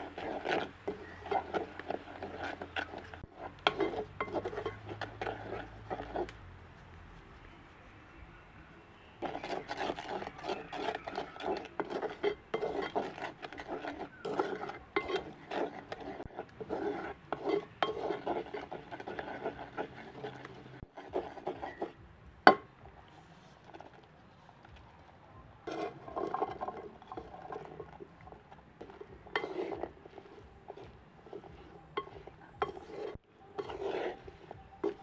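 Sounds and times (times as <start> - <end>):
utensil scraping a pot: 0.0 - 24.8, 25.6 - 35.0.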